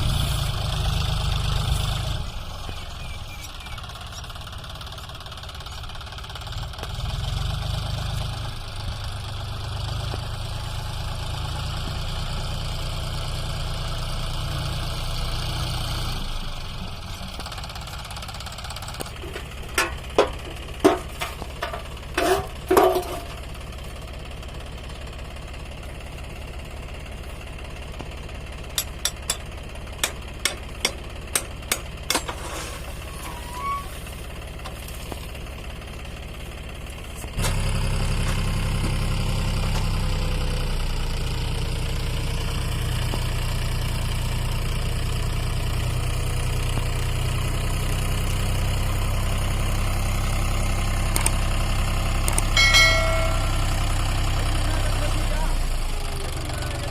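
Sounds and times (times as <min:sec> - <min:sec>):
diesel tractor engine running: 0:00.0 - 0:56.9.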